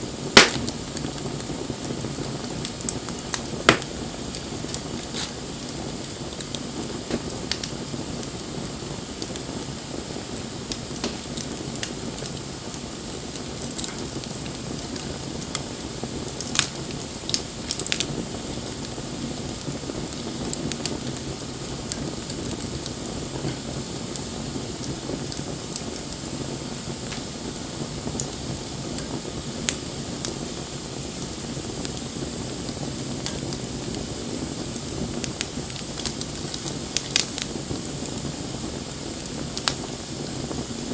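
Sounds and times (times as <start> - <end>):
bonfire hissing and crackling: 0.0 - 40.9.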